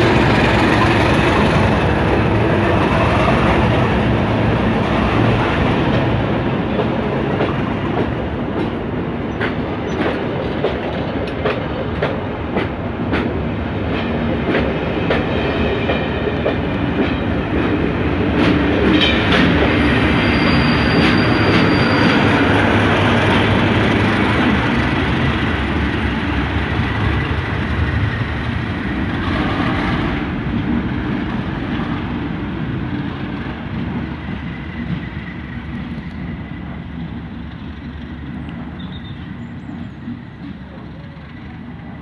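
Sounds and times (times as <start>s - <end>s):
diesel locomotive engine: 0.0s - 42.0s.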